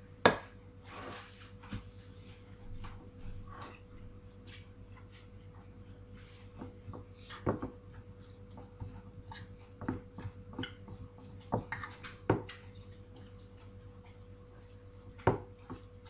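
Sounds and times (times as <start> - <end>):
faint hum: 0.0 - 16.0
mixture stirred in bowl: 0.4 - 16.0.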